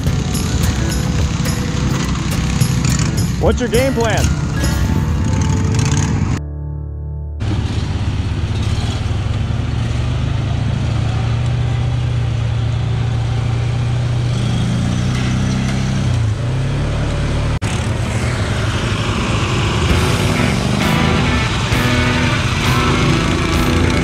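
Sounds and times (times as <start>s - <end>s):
riding mower engine running: 0.0s - 24.0s.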